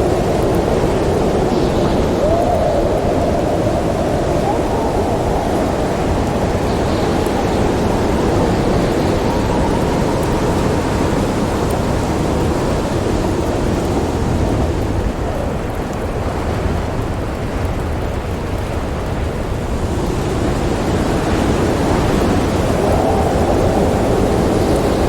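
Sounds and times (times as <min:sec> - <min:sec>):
howling storm wind: 0:00.0 - 0:25.0.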